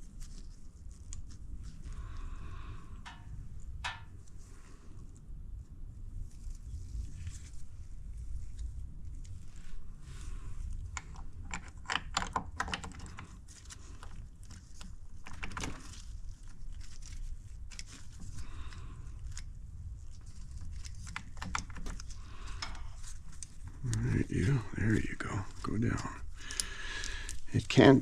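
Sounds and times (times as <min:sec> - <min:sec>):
steady low hum: 0:00.0 - 0:11.8, 0:13.0 - 0:28.0.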